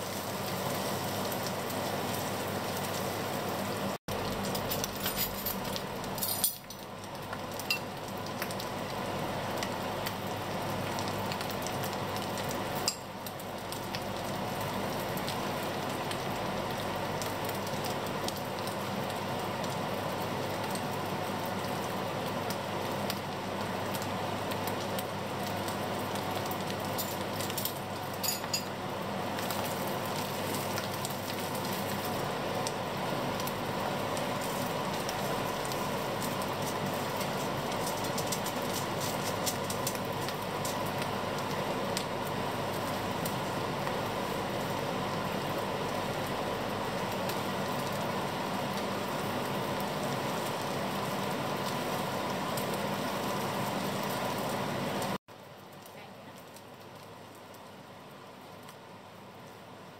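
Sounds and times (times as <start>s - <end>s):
fish sizzling in oil: 0.0s - 59.9s.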